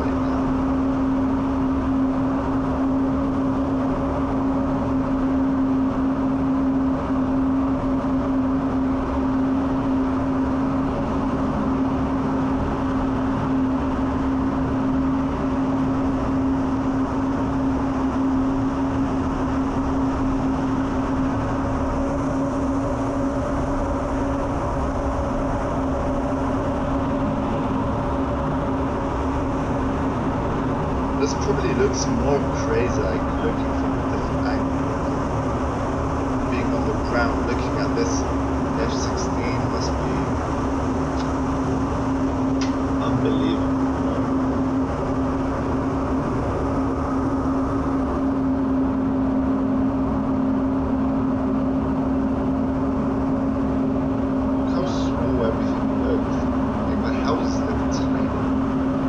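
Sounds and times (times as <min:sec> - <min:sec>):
constant low hum: 0:00.0 - 0:59.0
jet engine drone: 0:00.0 - 0:59.0.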